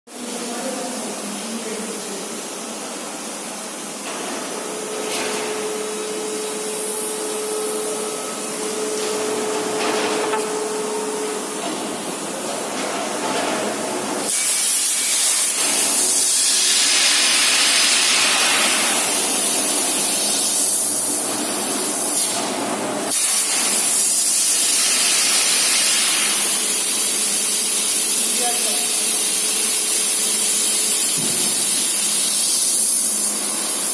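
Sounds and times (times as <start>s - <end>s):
plasma torch cutting hiss: 2.2s - 12.2s, 14.2s - 22.4s, 23.1s - 33.9s.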